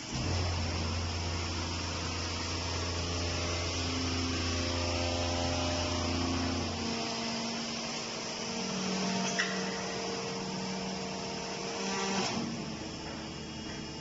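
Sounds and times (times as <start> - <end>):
machinery motor hum: 0.0 - 14.0.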